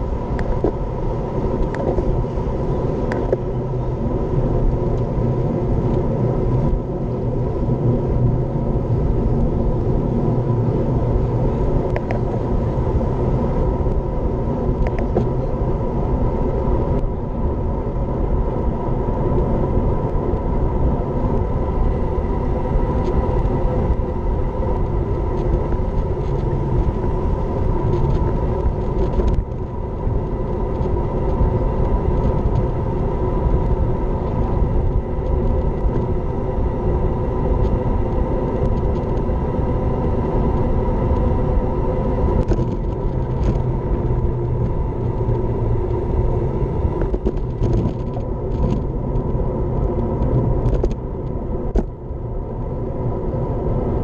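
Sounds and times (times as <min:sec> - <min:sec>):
tyres rumbling on asphalt: 0:00.0 - 0:54.0
wind rush: 0:00.0 - 0:54.0.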